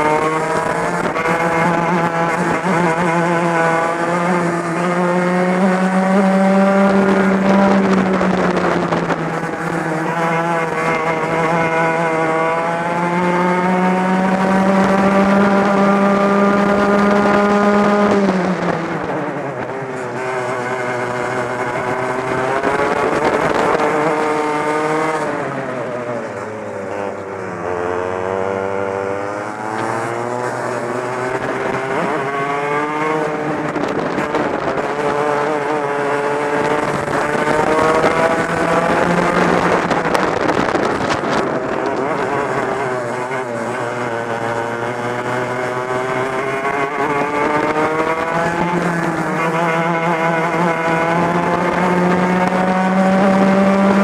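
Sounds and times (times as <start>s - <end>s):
two-stroke kart engine racing: 0.0s - 54.0s.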